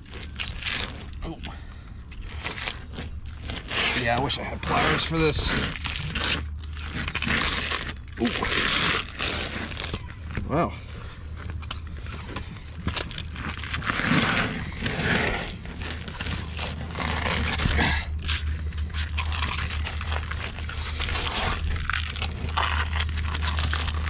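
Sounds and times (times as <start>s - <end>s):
fish skin ripping: 0.0s - 10.4s, 11.2s - 24.0s
steady low hum: 0.0s - 24.0s.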